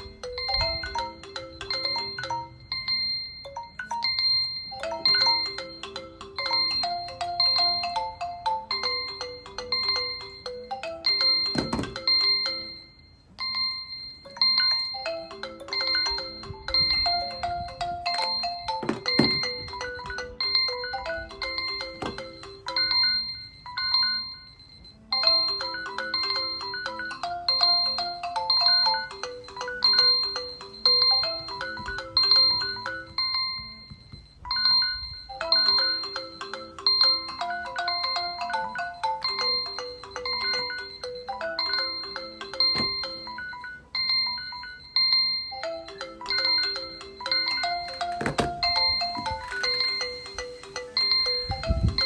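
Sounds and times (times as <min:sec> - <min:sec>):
phone alarm ringtone melody: 0:00.0 - 0:52.0.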